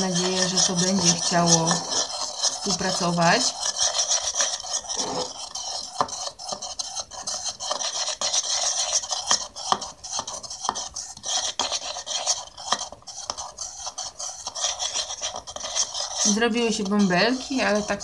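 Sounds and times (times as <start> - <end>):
utensil scraping ceramic bowl: 0.0 - 18.0.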